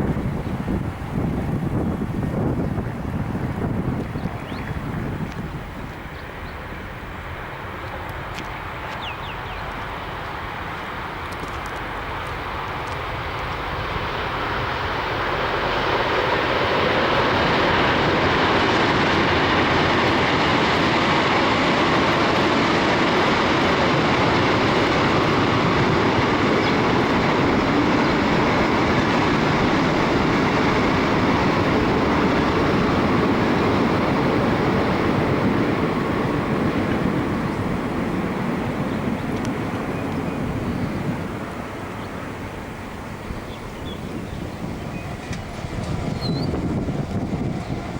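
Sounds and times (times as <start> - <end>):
train passing: 0.0 - 47.9.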